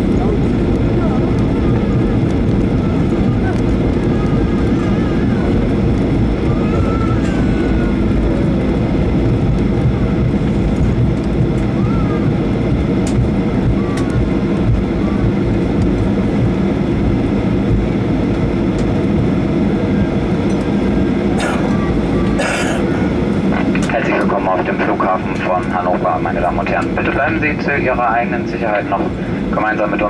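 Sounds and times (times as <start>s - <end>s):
airframe and wheel rumble: 0.0s - 30.0s
jet engines at low power: 0.0s - 30.0s.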